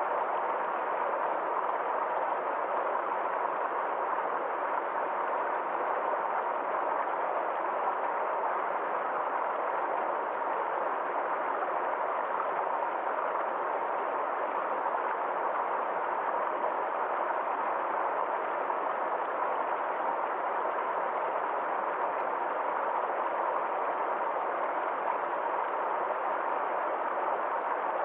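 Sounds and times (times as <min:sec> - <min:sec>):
stream flowing over rocks: 0:00.0 - 0:28.0.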